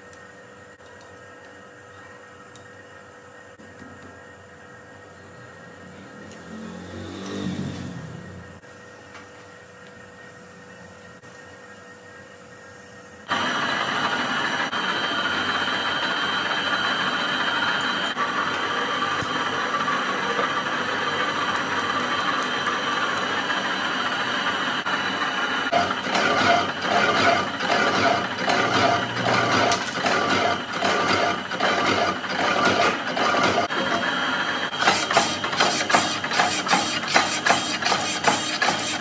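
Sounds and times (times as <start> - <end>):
metalworking machine whining: 3.4 - 8.7, 9.9 - 39.0.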